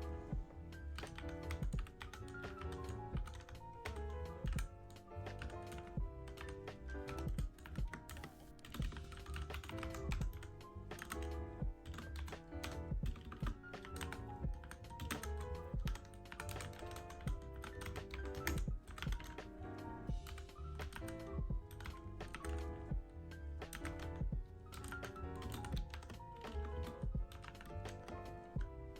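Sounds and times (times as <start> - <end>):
soft background music: 0.0 - 28.9
mechanical keyboard typing: 1.0 - 22.9, 23.6 - 28.7.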